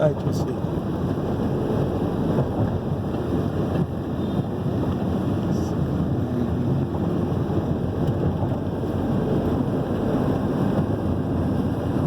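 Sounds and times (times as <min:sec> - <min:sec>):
vehicle road noise: 0:00.0 - 0:12.0
wind buffeting microphone: 0:00.0 - 0:12.0.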